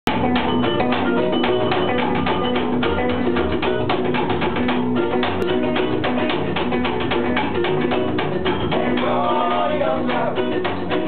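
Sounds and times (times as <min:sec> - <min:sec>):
guitar strumming: 0:00.1 - 0:11.0
plucked double bass: 0:00.1 - 0:11.0
ukulele strumming: 0:00.1 - 0:11.0.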